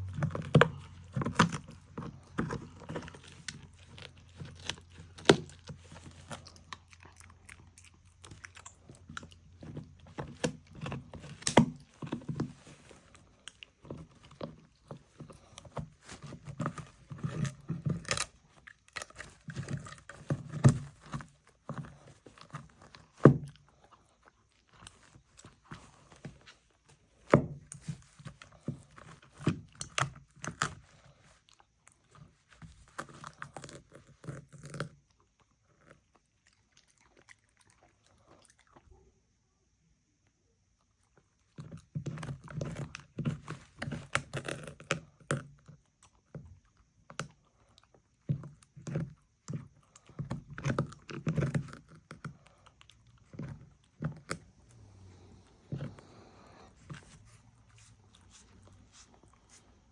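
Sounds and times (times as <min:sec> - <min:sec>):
dog chewing food: 0:00.0 - 0:39.0, 0:41.1 - 0:59.9.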